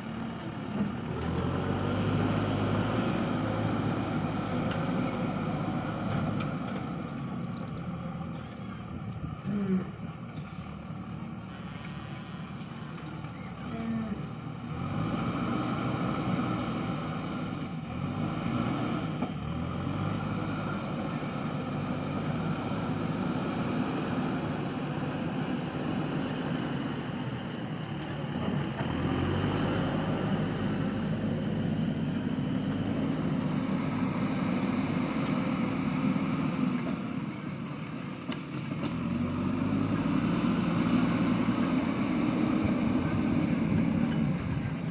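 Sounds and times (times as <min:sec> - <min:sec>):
backhoe diesel engine under load: 0:00.0 - 0:44.9.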